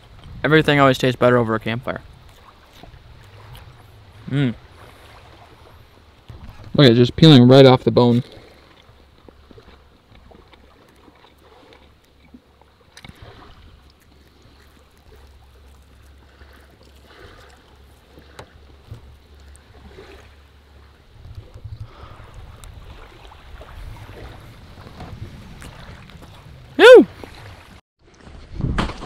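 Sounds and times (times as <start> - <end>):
rumble of wind and water: 0.0 - 29.0.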